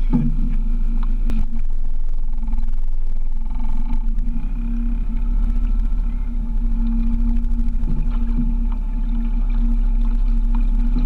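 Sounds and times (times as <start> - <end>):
outboard motor hum: 0.0 - 11.0
wind rumble on microphone: 0.0 - 11.0.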